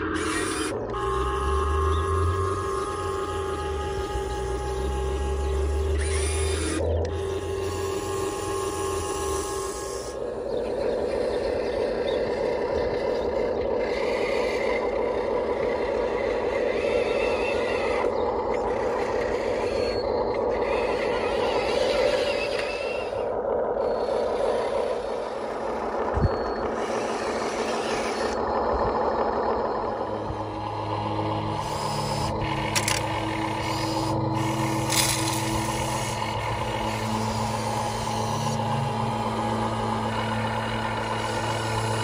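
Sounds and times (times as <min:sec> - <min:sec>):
small electric motors whirring: 0:00.0 - 0:42.0.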